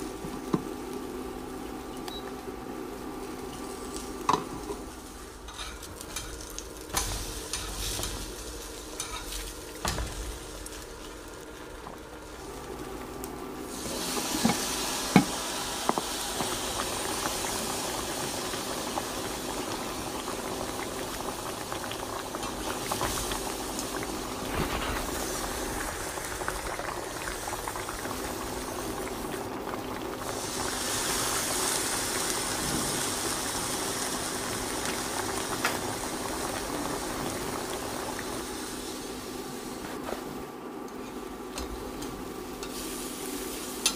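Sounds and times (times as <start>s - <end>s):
food sizzling in pan: 0.0s - 40.2s, 41.8s - 43.9s.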